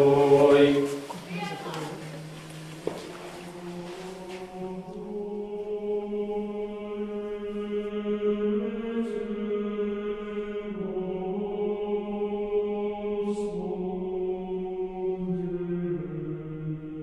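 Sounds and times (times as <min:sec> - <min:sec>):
slow choral chanting: 0:00.0 - 0:17.0.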